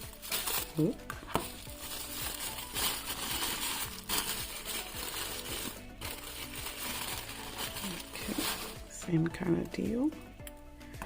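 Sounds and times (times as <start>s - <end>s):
wrapping paper crinkling: 0.0s - 9.0s.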